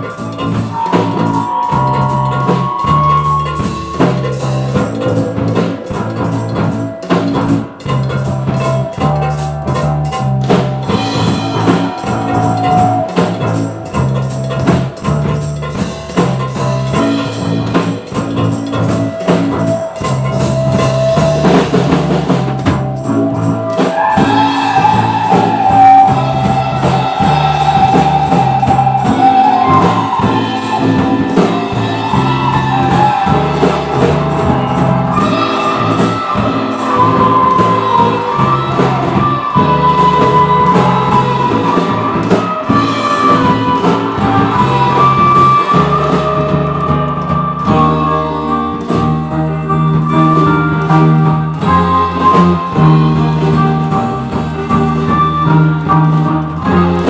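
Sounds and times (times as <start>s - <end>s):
band playing: 0.0s - 57.0s
bass line: 0.0s - 57.0s
drums: 0.0s - 57.0s
sustained melody line: 0.0s - 57.0s.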